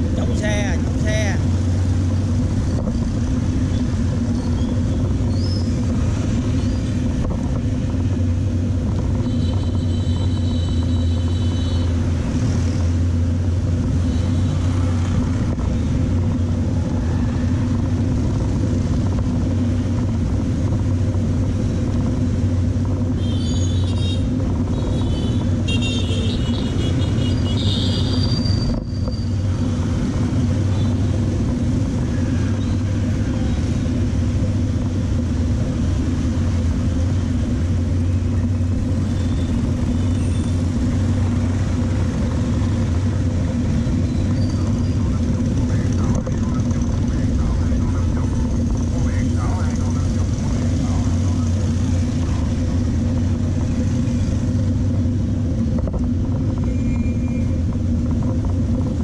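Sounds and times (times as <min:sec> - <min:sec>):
road and wind rumble: 0:00.0 - 0:59.0.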